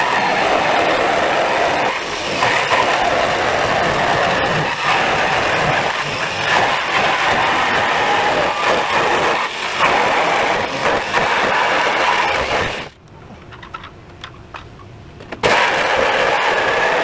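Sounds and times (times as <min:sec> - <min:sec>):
power tool grinding sheet metal: 0:00.0 - 0:13.0, 0:15.4 - 0:17.0.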